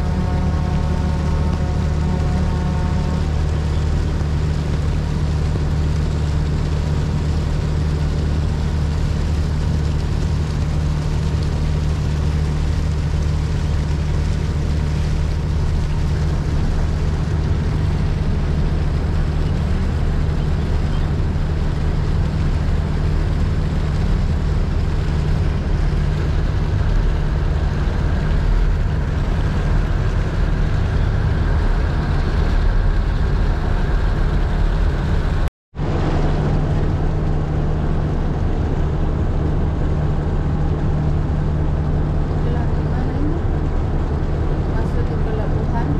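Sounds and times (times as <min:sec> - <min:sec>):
hiss of wind and water: 0:00.0 - 0:45.9
ship engine droning: 0:00.0 - 0:45.9.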